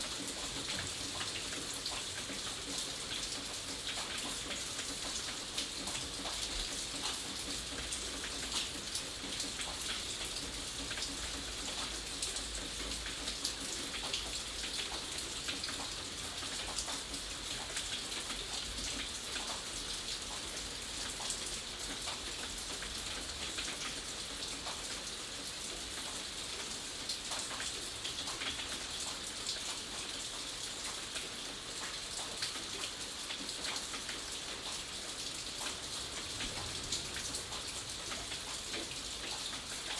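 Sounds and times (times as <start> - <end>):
rain hiss: 0.0 - 39.9
rain pattering on hard surface: 0.0 - 39.9.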